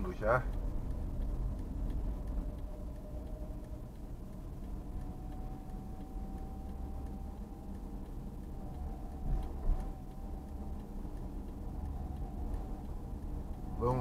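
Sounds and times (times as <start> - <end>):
engine and road rumble: 0.0 - 14.0
faint steady whine: 0.0 - 14.0.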